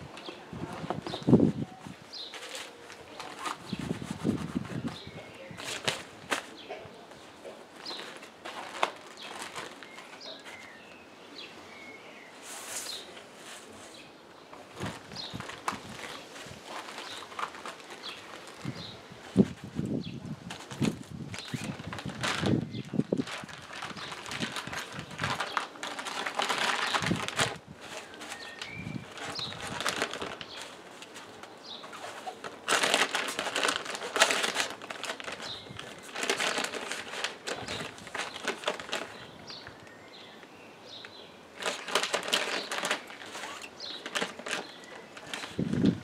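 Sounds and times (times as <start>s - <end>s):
plastic pouch crinkling: 2.2s - 6.7s, 7.7s - 10.8s, 14.6s - 40.0s, 41.6s - 46.0s.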